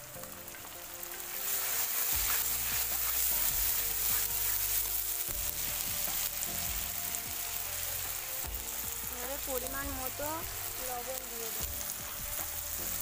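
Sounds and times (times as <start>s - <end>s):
vegetables sizzling in hot oil: 0.0s - 13.0s
metal spatula stirring: 0.8s - 13.0s.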